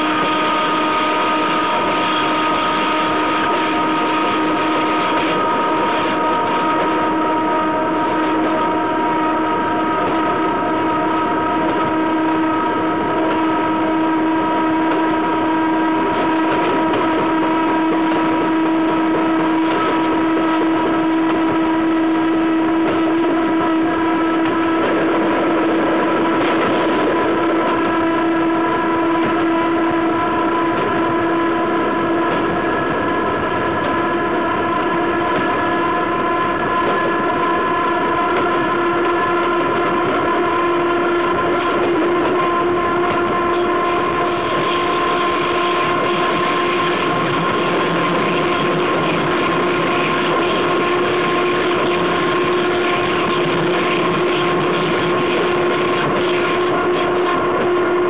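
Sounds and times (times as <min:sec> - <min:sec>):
steady pitched whine: 0:00.0 - 0:58.0
train wheels rumbling on rail: 0:00.0 - 0:58.0.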